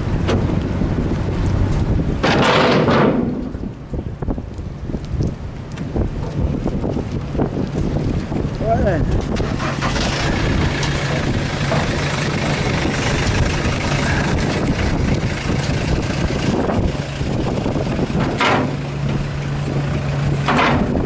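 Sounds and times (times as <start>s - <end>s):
van driving down a ramp: 0.0s - 8.6s, 9.2s - 21.0s
ferry engine idling: 0.0s - 21.0s.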